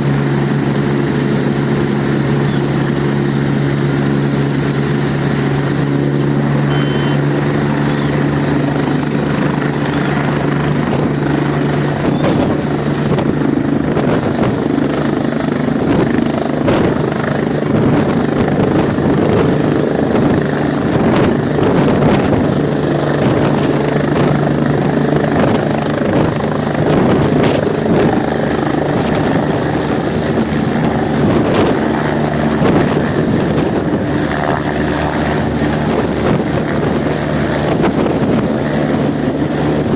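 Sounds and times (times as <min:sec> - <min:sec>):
helicopter rotors and engine: 0:00.0 - 0:39.9.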